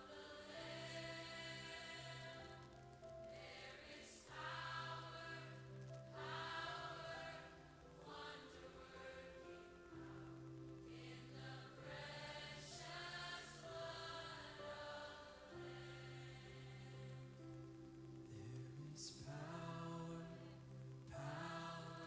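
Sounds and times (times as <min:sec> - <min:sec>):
choir-like voices music: 0:00.0 - 0:22.0.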